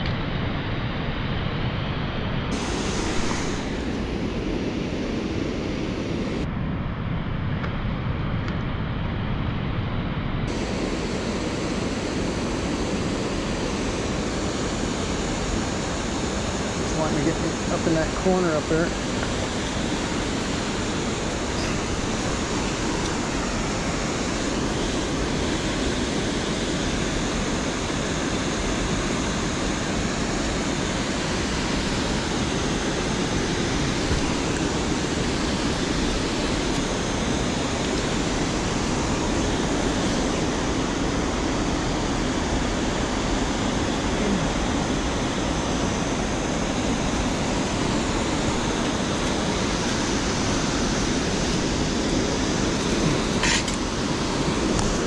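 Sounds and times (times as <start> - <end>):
water rushing over dam spillway: 2.5 - 5.5, 10.5 - 55.0.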